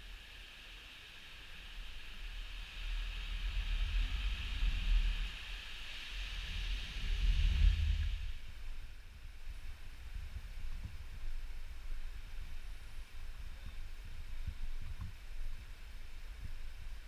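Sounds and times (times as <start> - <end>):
high hiss of wind: 0.0 - 17.0.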